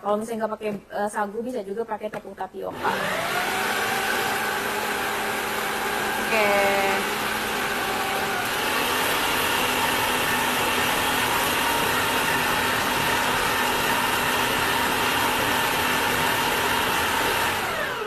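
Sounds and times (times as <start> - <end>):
food processor grinding: 2.7 - 18.0.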